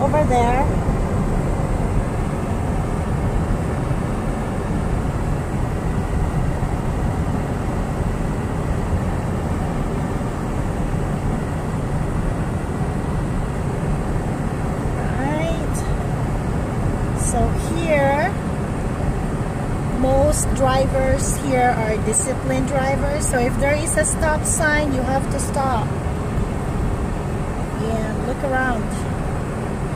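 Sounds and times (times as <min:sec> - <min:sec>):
car engine: 0:00.0 - 0:29.9.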